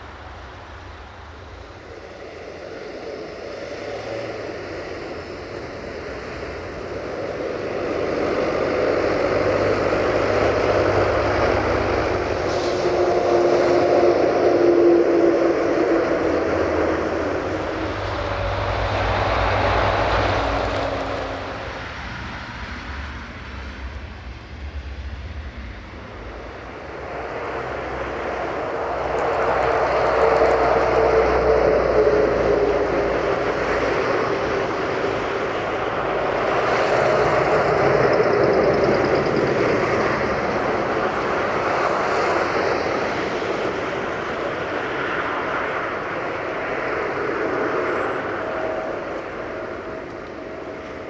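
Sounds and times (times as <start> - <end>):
train rumbling: 0.0 - 51.0.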